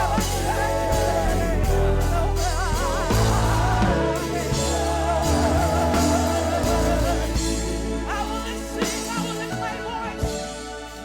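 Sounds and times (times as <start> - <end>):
gospel band playing: 0.0 - 11.0
person singing with vibrato: 0.0 - 11.0.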